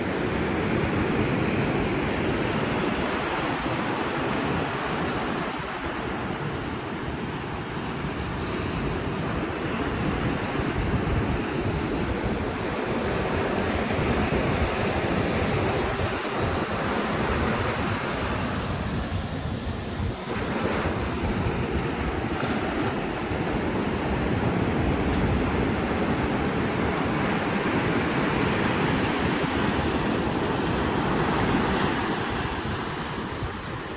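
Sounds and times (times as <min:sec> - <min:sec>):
ocean waves breaking on rocks: 0:00.0 - 0:33.9
wind buffeting microphone: 0:00.0 - 0:33.9.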